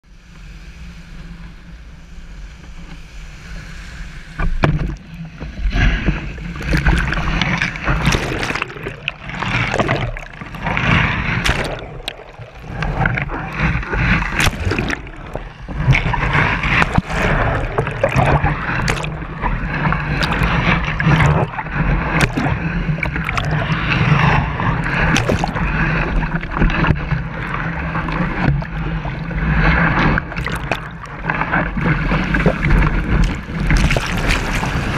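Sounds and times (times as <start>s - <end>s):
sea water rushing and splashing: 0.0s - 34.9s
steady low rumble: 0.0s - 34.9s.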